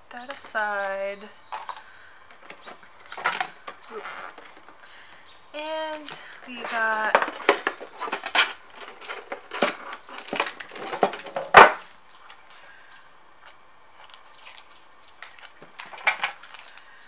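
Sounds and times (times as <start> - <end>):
crinkly rustling of packs: 0.4 - 12.4, 13.4 - 17.0.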